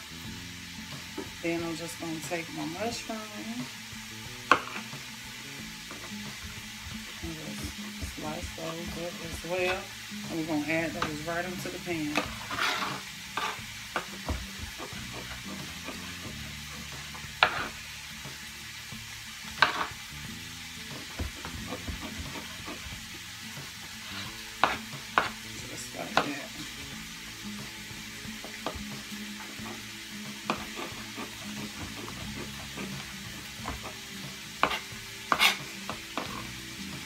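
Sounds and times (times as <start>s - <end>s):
onions sizzling in a skillet: 0.0s - 37.0s.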